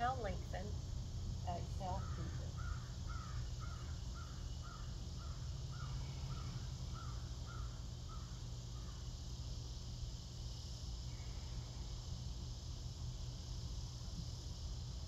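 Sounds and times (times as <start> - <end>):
low hum: 0.0 - 15.0
steady high hiss: 0.0 - 15.0.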